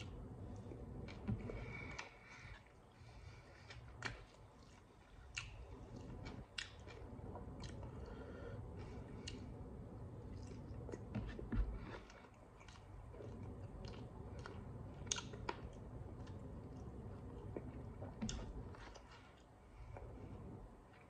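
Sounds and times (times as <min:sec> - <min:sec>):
man chewing food: 0:00.0 - 0:21.0.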